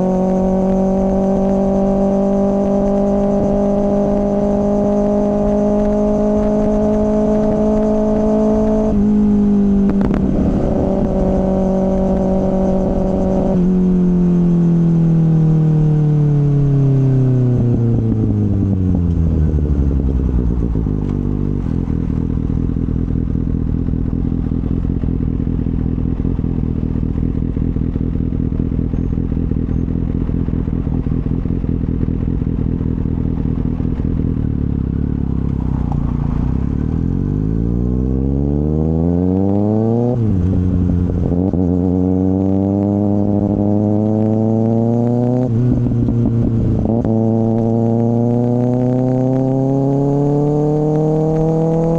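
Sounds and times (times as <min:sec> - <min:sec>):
motorcycle engine: 0:00.0 - 0:51.9.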